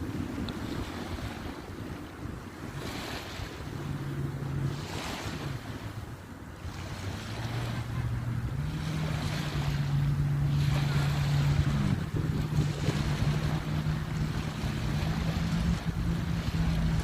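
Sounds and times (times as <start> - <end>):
low motor hum: 0.0 - 17.0
surf breaking on beach: 0.0 - 17.0
wind buffeting microphone: 0.0 - 17.0.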